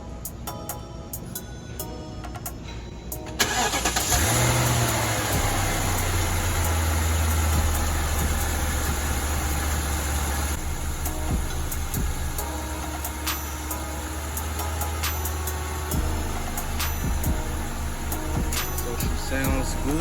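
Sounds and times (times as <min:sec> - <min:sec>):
car engine starting and idling: 0:03.3 - 0:20.0.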